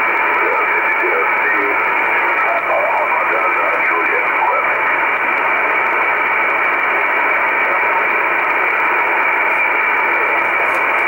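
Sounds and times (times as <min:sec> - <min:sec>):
shortwave radio hiss: 0:00.0 - 0:11.0.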